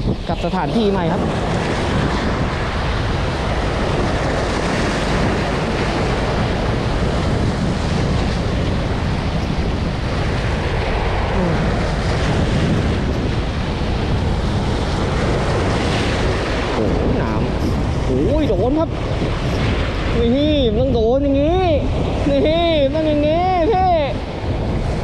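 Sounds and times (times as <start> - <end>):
surf breaking on shore: 0.0 - 25.0
wind buffeting microphone: 0.0 - 25.0.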